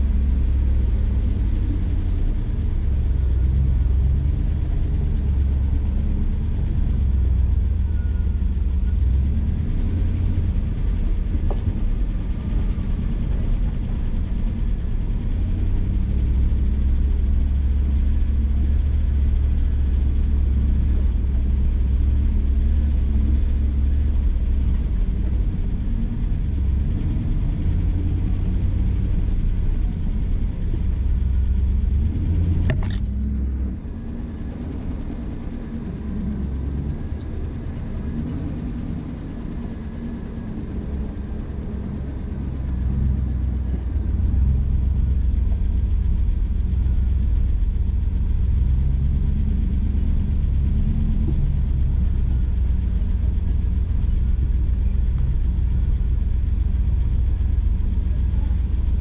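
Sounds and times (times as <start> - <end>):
vehicle rumbling on dirt trail: 0.0 - 59.0.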